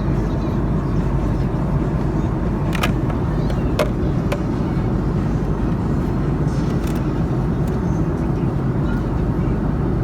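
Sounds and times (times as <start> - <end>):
airliner cabin roar: 0.0 - 10.0.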